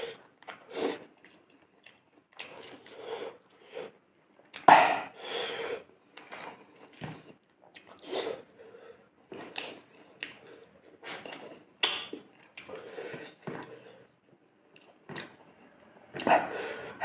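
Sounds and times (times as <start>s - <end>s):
chewing: 0.0s - 5.2s, 5.8s - 17.0s.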